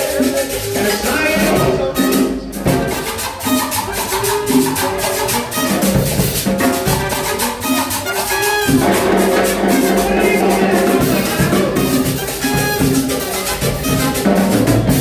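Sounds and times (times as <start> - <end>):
steady percussion beat: 0.0 - 15.0
band playing sustained notes: 0.3 - 15.0.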